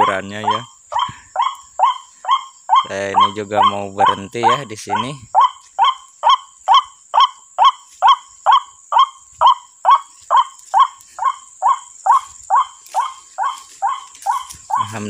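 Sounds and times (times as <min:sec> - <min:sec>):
bird call through loudspeaker: 0:00.0 - 0:07.3, 0:09.4 - 0:15.0.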